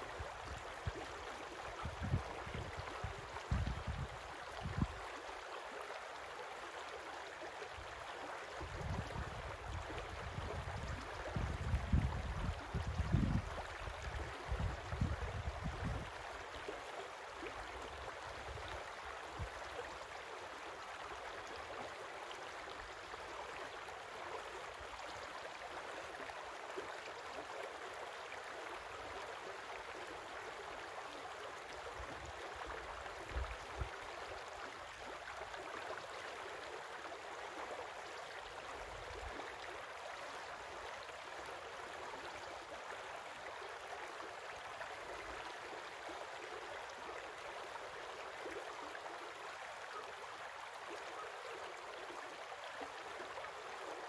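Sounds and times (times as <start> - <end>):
creek babbling over stones: 0.0 - 54.0.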